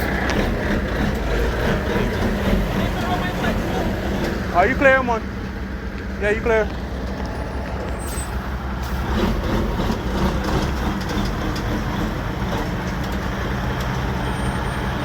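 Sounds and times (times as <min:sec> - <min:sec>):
dump truck diesel engine running: 0:00.0 - 0:15.0.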